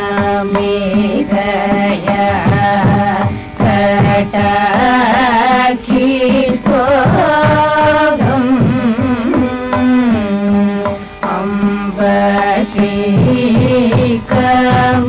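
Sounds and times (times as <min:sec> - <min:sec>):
hand drum strokes: 0:00.0 - 0:15.0
ornamented vocal singing: 0:00.0 - 0:15.0.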